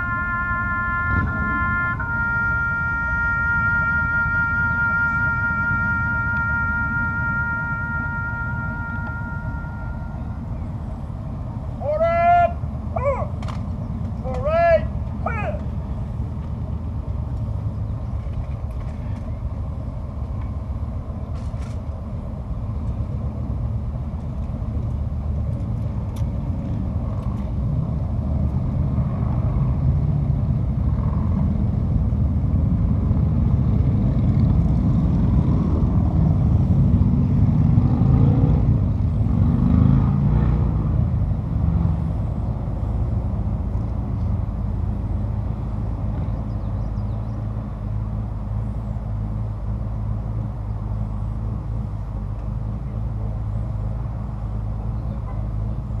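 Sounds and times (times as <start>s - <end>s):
vehicle engines rumbling: 0.0s - 56.0s.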